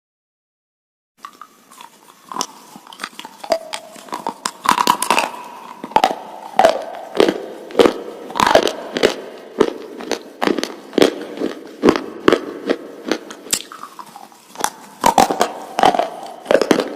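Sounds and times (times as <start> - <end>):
chewing: 1.2 - 16.9.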